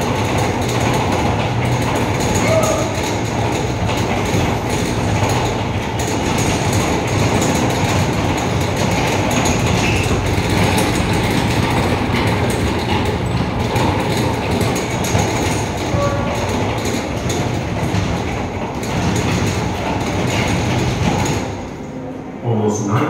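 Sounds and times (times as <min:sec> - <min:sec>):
shaking platform rumble: 0:00.0 - 0:21.8
rattling and clicking: 0:00.0 - 0:22.0.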